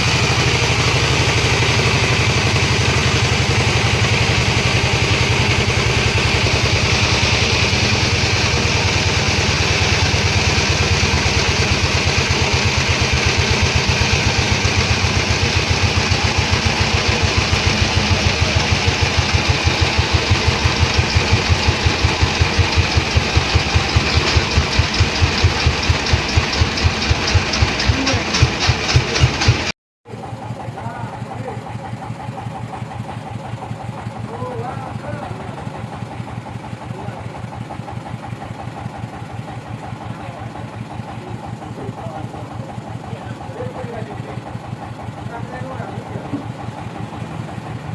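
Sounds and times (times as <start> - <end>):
engine running with slowing beats: 0.0 - 47.9.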